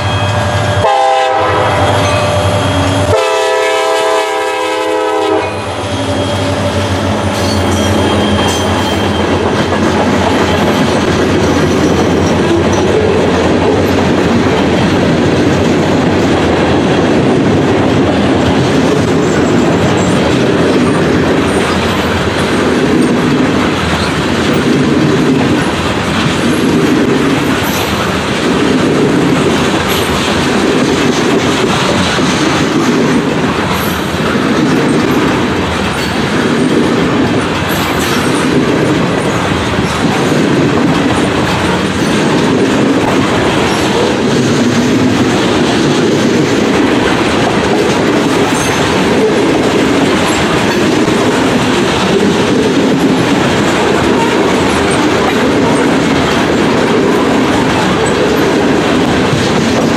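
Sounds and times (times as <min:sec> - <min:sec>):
freight train rumbling past: 0:00.0 - 0:59.9
wheels clattering over rail joints: 0:06.4 - 0:59.9.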